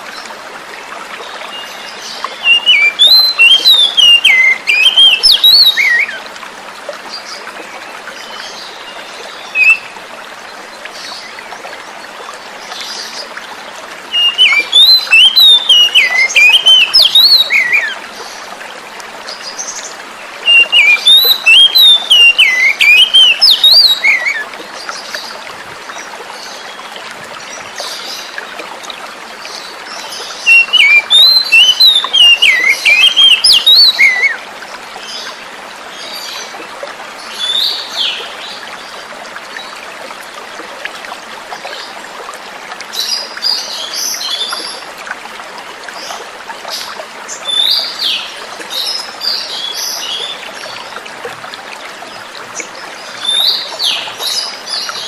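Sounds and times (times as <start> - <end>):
flowing water hiss: 0.0 - 55.0.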